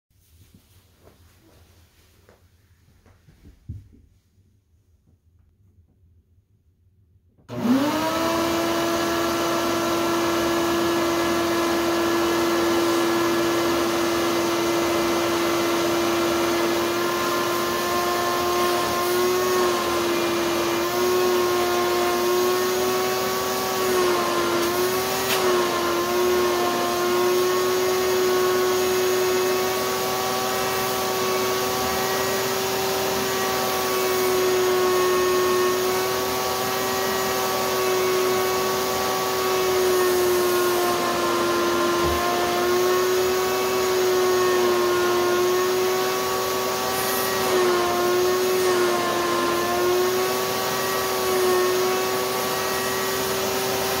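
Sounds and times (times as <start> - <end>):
shop vac motor whine: 7.5 - 54.0.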